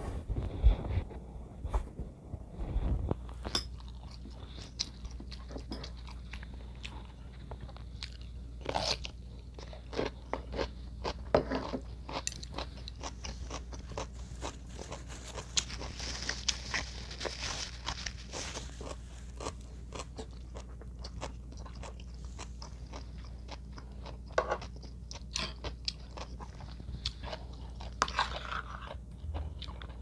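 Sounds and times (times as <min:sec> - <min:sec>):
person chewing crunchy food: 0:03.1 - 0:30.0.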